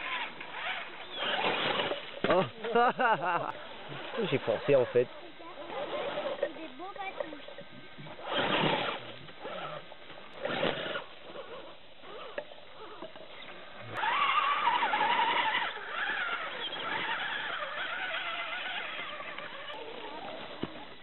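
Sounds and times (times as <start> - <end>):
electric motor whining: 0.0 - 2.3, 3.9 - 21.0.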